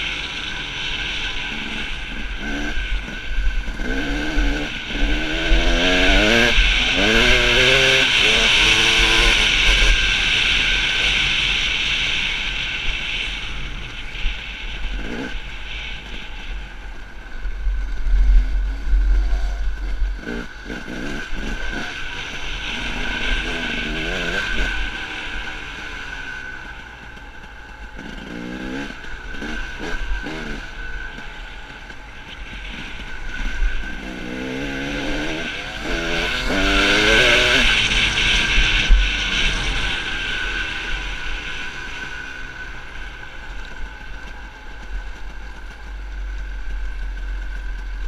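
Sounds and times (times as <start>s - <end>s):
dirt bike engine revving: 0.0s - 16.5s, 17.8s - 43.6s.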